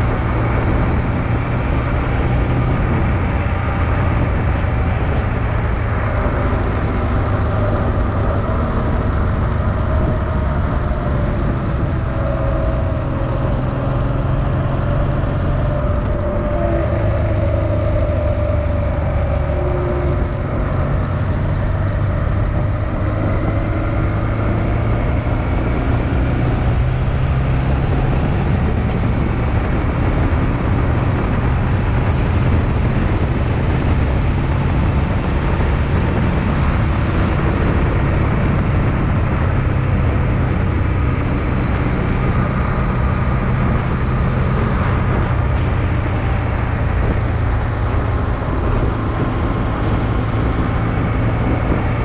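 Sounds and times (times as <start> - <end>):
wind and road noise: 0.0 - 52.0.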